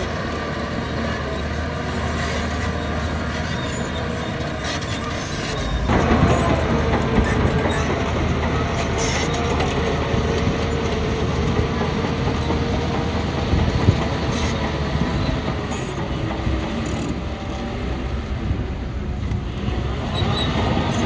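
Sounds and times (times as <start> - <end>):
diesel engine with whine: 0.0 - 21.0
steel tracks rattling and clanking: 0.0 - 21.0.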